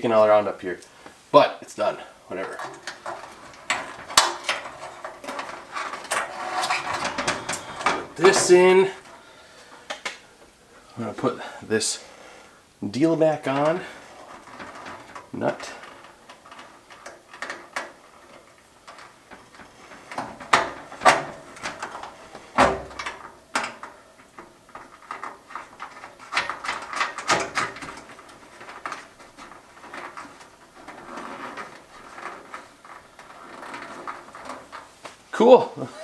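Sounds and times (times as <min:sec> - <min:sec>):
metal and plastic parts handled: 0:02.3 - 0:11.4, 0:13.2 - 0:35.4.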